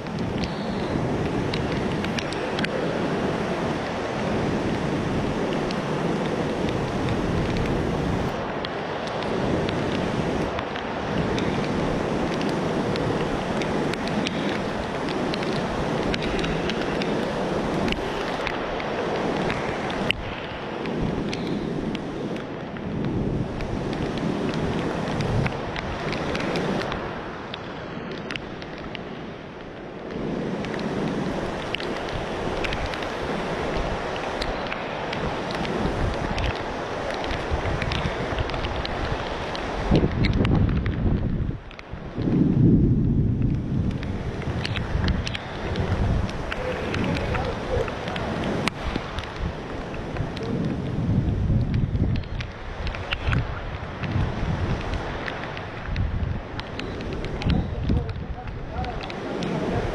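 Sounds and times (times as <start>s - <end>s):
storm wind gusting on microphone: 0.0s - 59.9s.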